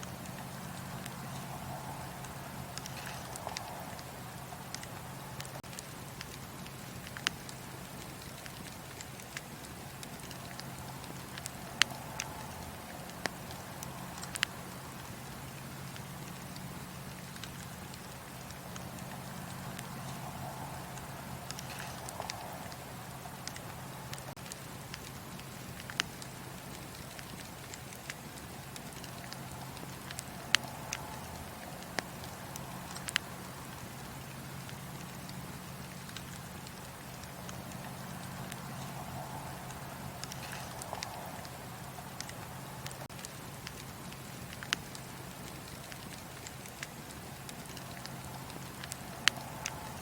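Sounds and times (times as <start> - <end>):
fire popping and snapping: 0.0 - 50.0
wood fire crackling: 0.0 - 50.0.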